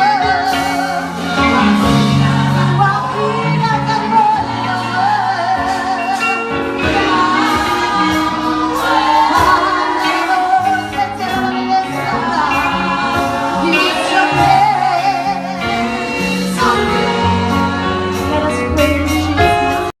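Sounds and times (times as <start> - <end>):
band playing: 0.0 - 19.9
gospel choir singing: 0.0 - 19.9.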